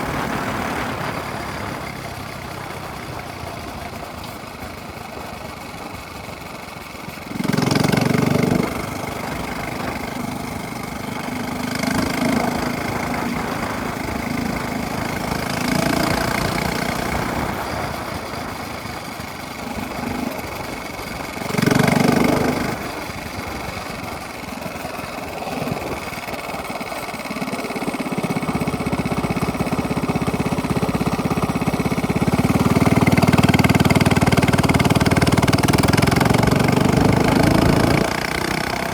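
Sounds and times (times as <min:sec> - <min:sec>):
minibike engine with throttle blips: 0:00.0 - 0:38.9.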